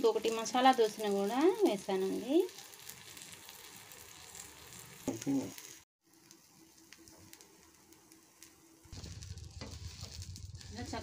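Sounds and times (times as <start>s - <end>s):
pancake sizzling on griddle: 0.0s - 11.0s.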